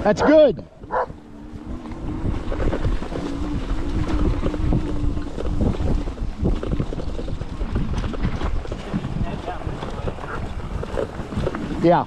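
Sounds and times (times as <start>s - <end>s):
bumps and jolts of bike ride: 0.0s - 12.0s
wind rushing over microphone: 0.0s - 12.0s.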